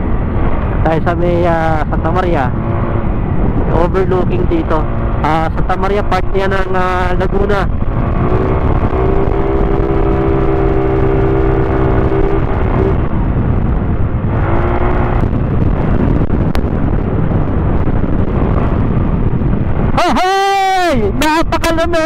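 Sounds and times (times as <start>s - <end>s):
motorcycle engine: 0.0s - 21.6s
wind rush on microphone: 0.0s - 22.0s.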